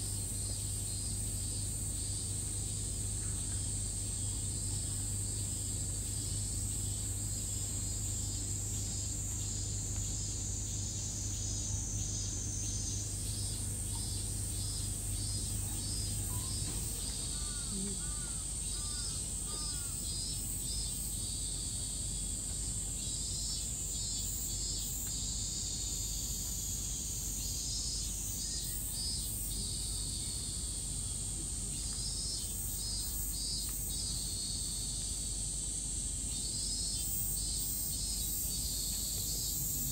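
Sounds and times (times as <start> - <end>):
cicadas shrilling: 0.0 - 39.9.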